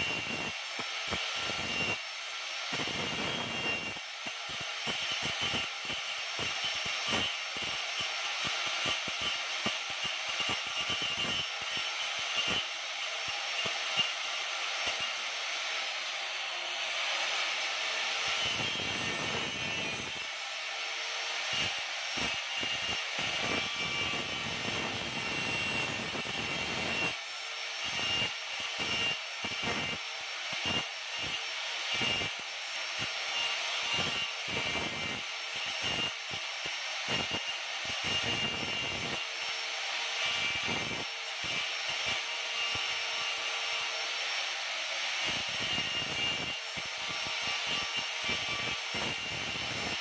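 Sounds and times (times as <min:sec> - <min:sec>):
angle grinder cutting metal: 0:00.0 - 0:50.0.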